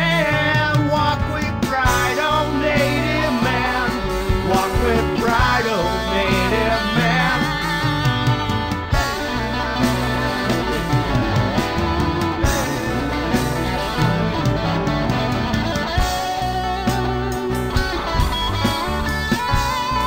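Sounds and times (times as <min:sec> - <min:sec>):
bass: 0:00.0 - 0:20.0
electric guitar lead: 0:00.0 - 0:20.0
steady drum beat: 0:00.0 - 0:20.0.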